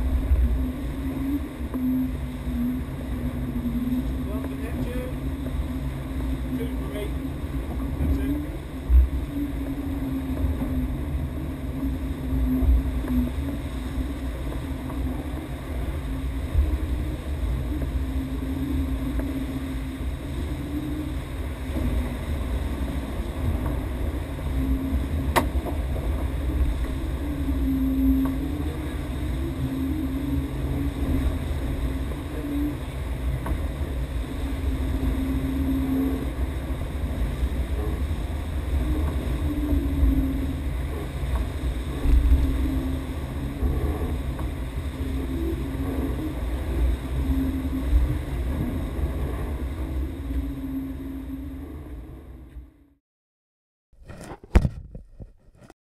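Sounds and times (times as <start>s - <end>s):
low wavering hum: 0.0s - 53.0s
water rushing along a hull: 0.0s - 53.0s.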